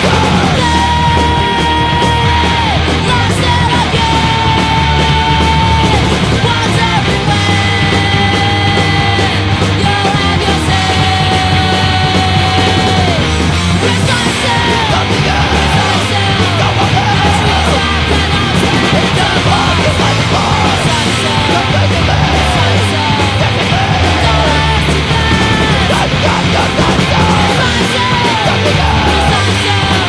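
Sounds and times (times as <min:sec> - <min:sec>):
crust punk band playing: 0:00.0 - 0:30.0.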